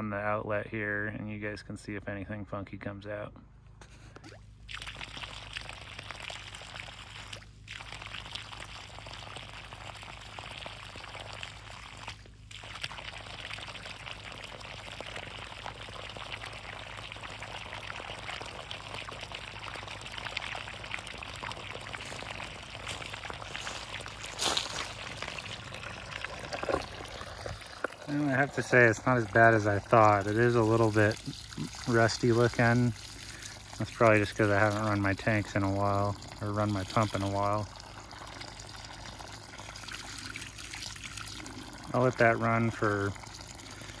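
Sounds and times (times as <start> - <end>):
water gushing from hose: 4.6 - 44.0
water splashing on leaf litter: 4.7 - 44.0.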